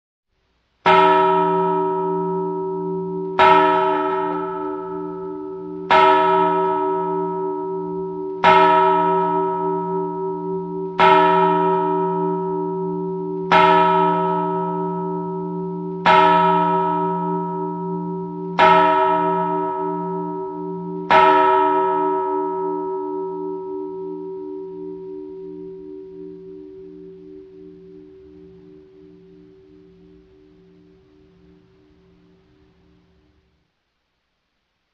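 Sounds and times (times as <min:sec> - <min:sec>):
church bell tolling: 0:00.8 - 0:33.4.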